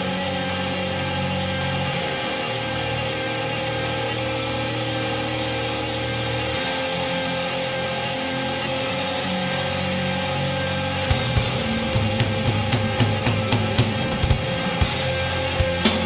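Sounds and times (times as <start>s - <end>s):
distorted guitar chords: 0.0s - 16.0s
drum kit with kick and cymbals: 0.0s - 16.0s.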